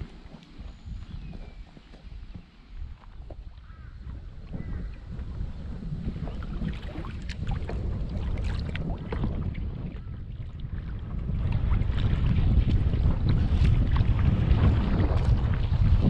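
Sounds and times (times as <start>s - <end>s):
water splashing against hull: 0.0s - 16.0s
wind buffeting microphone: 0.0s - 16.0s.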